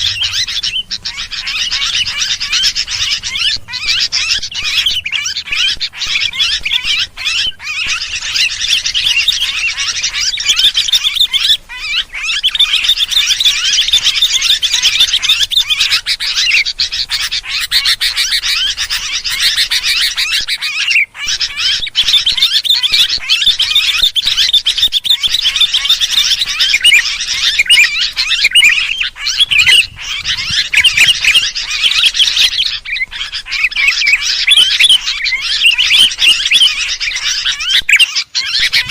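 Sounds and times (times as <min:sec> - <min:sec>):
bulbuls chattering chirps: 0:00.0 - 0:38.9.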